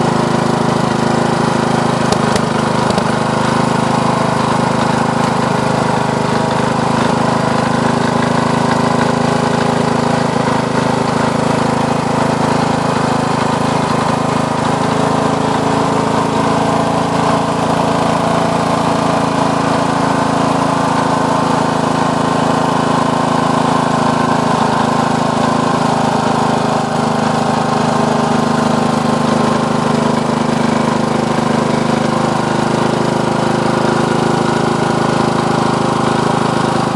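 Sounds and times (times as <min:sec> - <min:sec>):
single-cylinder engine running: 0:00.0 - 0:36.9.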